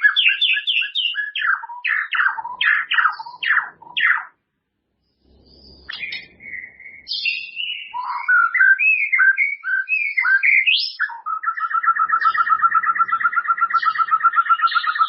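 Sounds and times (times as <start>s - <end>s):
songbird whistling and trilling: 0.0s - 4.4s, 5.4s - 15.0s.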